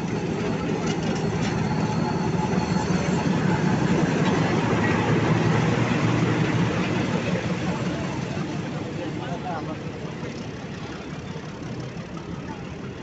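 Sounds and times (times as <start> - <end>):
locomotive engine humming: 0.0 - 13.0.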